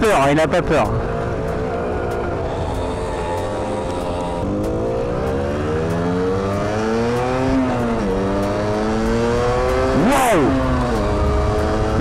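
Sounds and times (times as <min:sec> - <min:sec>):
motorcycle engine accelerating: 0:00.4 - 0:12.0.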